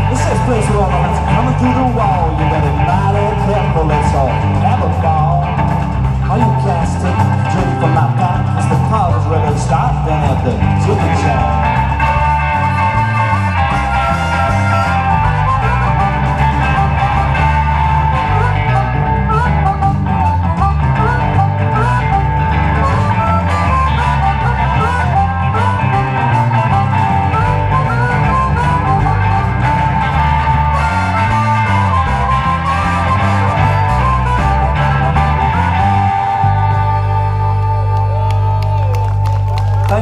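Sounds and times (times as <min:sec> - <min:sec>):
harmonica bending notes: 0:00.0 - 0:39.5
blues band playing: 0:00.0 - 0:40.0.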